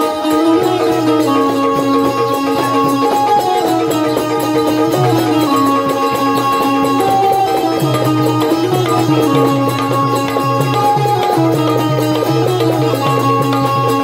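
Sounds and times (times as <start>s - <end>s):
hand drum beat: 0.0s - 14.0s
melody of long held notes: 0.0s - 14.0s
small cymbals: 0.0s - 14.0s.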